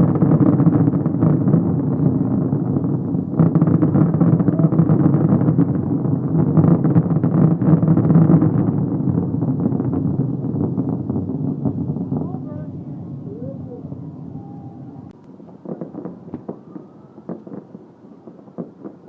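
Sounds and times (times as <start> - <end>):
distant fireworks barrage: 0.0 - 19.0.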